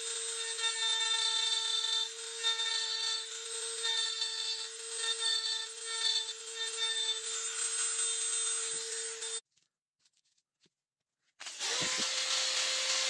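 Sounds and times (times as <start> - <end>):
rotary tool whining carving wood: 0.0 - 9.5, 11.4 - 13.0.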